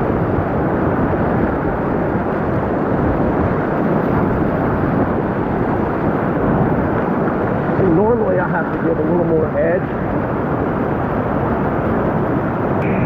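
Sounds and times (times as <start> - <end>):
whitewater roaring: 0.0 - 13.0.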